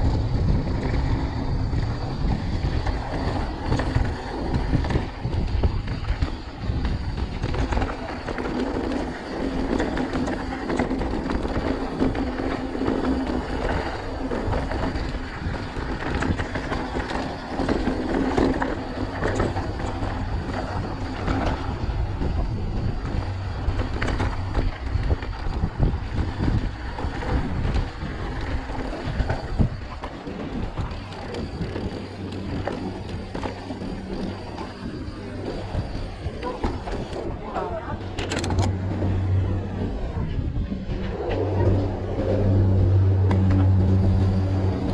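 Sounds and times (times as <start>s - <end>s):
bike rattling and knocking: 0.0s - 44.9s
bike tyres rumbling on gravel: 0.0s - 44.9s.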